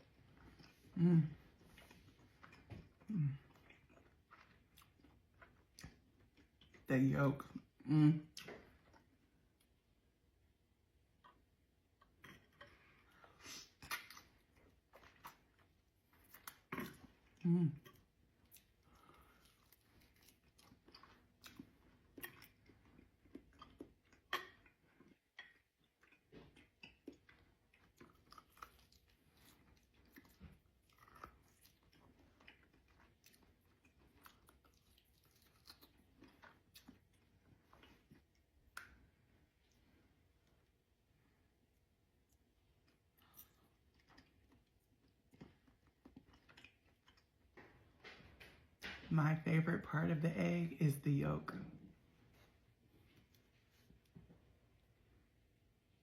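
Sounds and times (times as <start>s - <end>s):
person chewing food: 0.0s - 6.9s, 7.5s - 49.0s, 51.8s - 56.0s.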